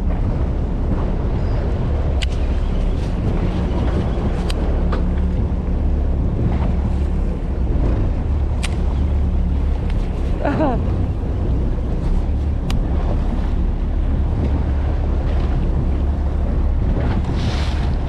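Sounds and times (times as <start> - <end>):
boat engine running: 0.0 - 18.0
water noise: 0.0 - 18.0
wind buffeting microphone: 0.0 - 18.0.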